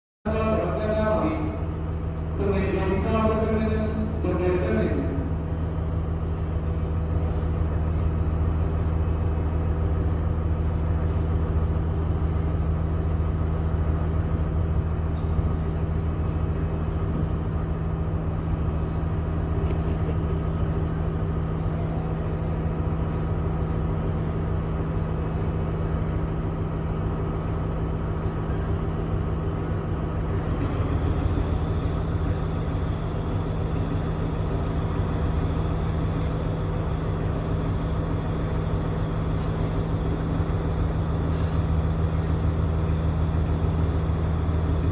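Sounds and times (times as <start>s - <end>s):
engine idling hum: 0.3s - 44.9s
faint high whine: 0.3s - 44.9s.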